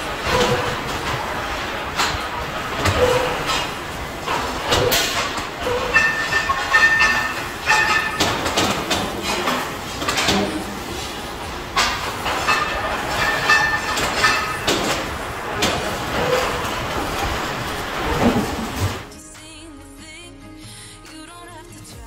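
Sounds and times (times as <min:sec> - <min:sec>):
high-pitched metal squealing: 0:00.0 - 0:19.1
metallic clanks and knocks: 0:00.0 - 0:19.1
steady workshop din: 0:00.0 - 0:19.2.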